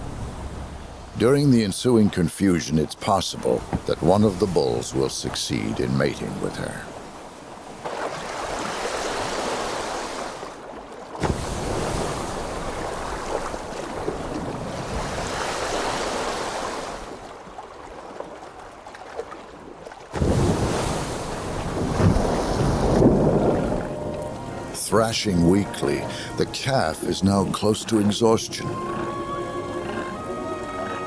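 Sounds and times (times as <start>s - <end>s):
sea water and waves rushing: 0.0s - 31.0s.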